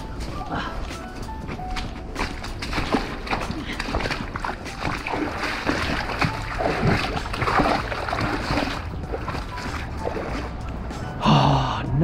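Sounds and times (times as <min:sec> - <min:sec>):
river water splashing: 0:01.5 - 0:11.2.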